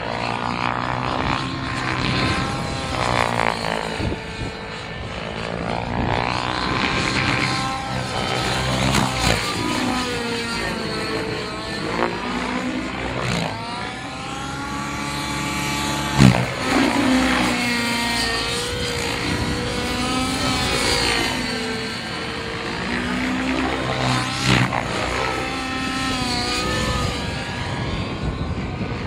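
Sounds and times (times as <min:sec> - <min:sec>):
rc helicopter rotor whine: 0:00.0 - 0:29.0.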